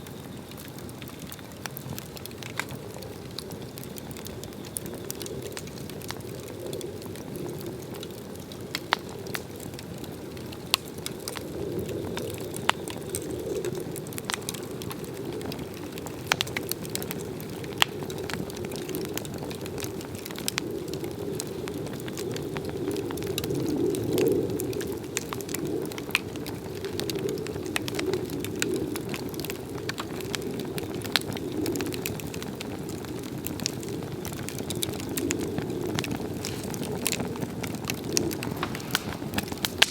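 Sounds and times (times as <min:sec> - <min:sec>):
log fire burning and crackling: 0:00.0 - 0:39.9.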